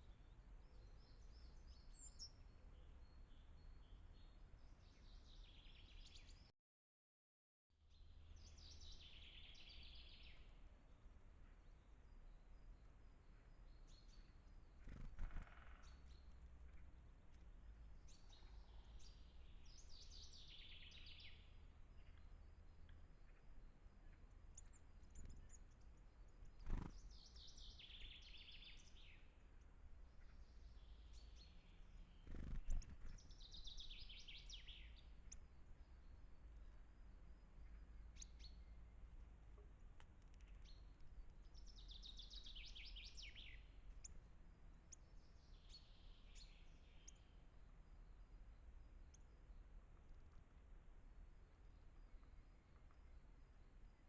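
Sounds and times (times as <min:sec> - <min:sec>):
songbird singing: 0:00.0 - 0:06.5, 0:07.8 - 0:54.0
faint low rumble: 0:07.8 - 0:54.0.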